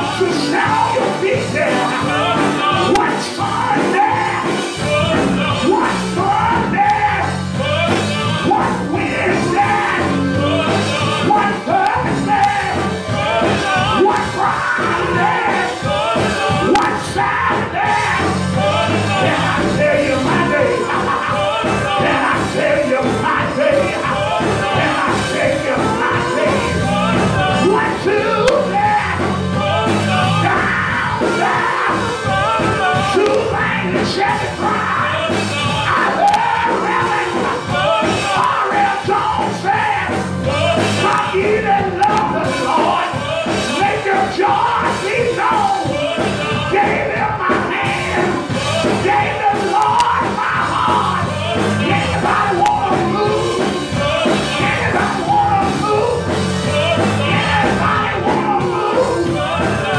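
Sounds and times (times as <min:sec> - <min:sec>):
man singing into microphone: 0:00.0 - 0:59.9
sustained keyboard chords: 0:00.0 - 0:59.9.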